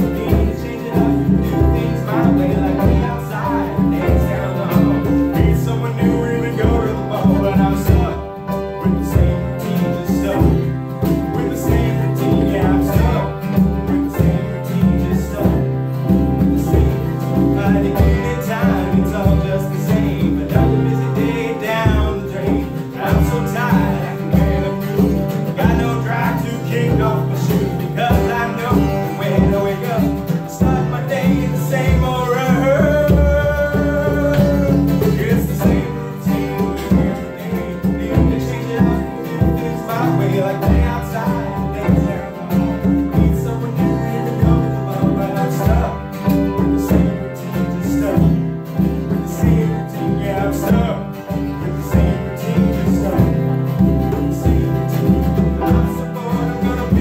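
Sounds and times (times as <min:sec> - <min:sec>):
acoustic guitar strumming: 0:00.0 - 0:57.0
hand drum beat: 0:00.0 - 0:57.0
man singing: 0:00.0 - 0:57.0.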